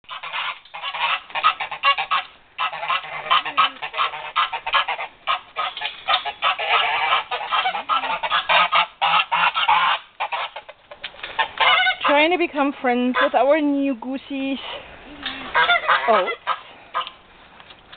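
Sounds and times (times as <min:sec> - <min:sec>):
geese honking loudly: 0:00.1 - 0:12.4, 0:13.0 - 0:13.6, 0:14.7 - 0:17.2.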